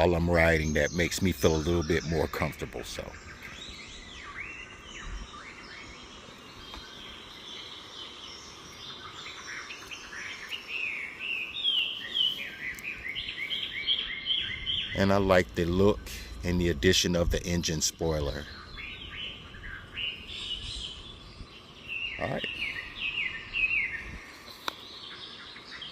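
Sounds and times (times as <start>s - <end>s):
birds chirping and singing: 0.0s - 25.9s.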